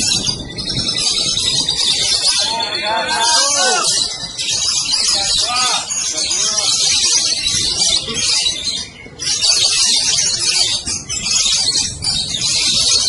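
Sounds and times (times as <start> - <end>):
crowd noise: 0.0 - 13.0
lovebirds chattering: 0.0 - 13.0.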